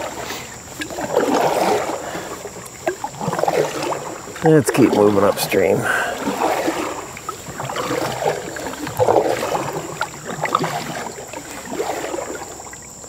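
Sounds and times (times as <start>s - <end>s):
paddle swishing through water: 0.0s - 13.0s
water drips: 0.0s - 13.0s.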